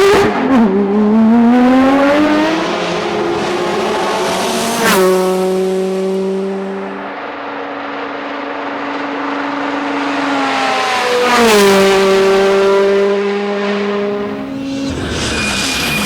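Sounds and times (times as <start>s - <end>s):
rally car passing by: 0.0s - 16.0s.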